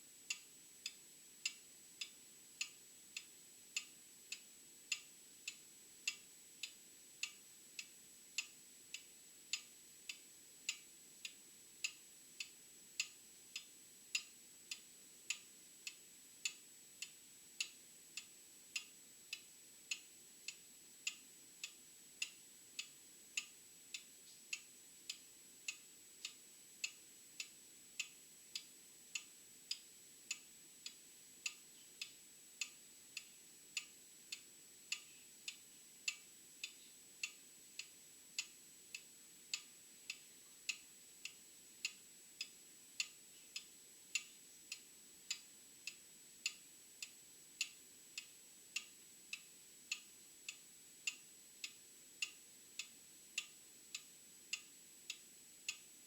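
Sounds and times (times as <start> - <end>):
faint high-pitched whine: 0.0 - 56.0
mechanical clock ticking: 0.3 - 55.9.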